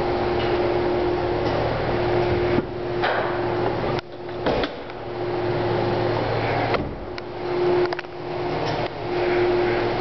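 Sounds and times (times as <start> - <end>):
mechanical hum: 0.0 - 10.0.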